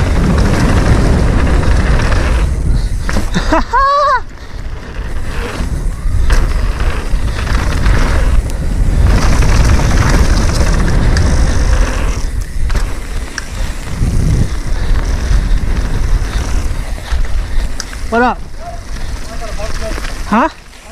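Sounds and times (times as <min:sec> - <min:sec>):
bike clattering: 0:00.0 - 0:20.9
bike tyres rolling over dirt and rock: 0:00.0 - 0:20.9
wind rumble on microphone: 0:00.0 - 0:20.9.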